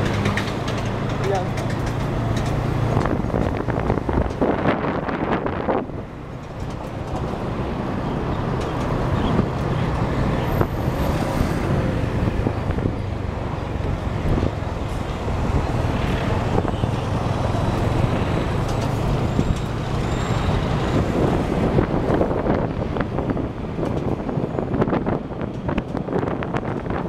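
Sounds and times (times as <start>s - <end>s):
traffic hum: 0.0s - 27.0s
wind and road noise: 0.0s - 27.0s.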